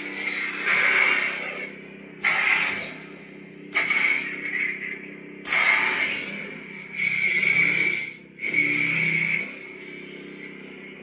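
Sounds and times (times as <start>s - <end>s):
lightsaber humming: 0.0s - 11.0s.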